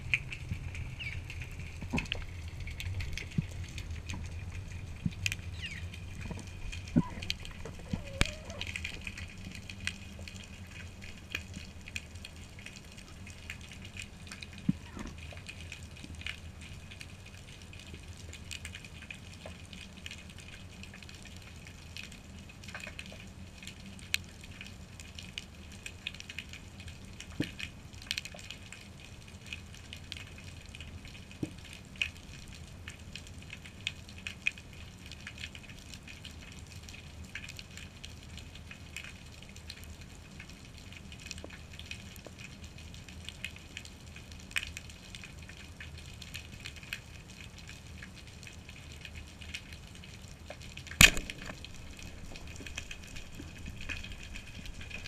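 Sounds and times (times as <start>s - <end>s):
faint clicks and crackles: 0.0s - 55.0s
underwater hiss and rumble: 0.0s - 55.0s.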